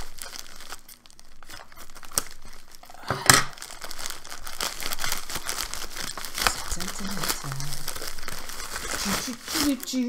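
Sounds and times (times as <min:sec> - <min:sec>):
envelope crinkling and tearing: 0:00.0 - 0:10.0.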